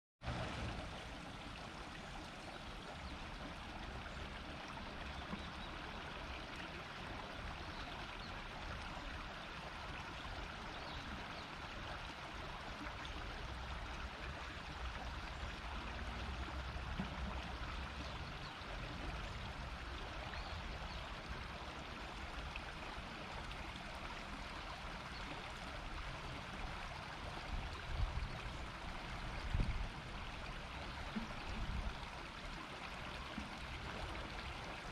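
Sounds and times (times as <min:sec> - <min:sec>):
river water running over stones: 0:00.2 - 0:34.9.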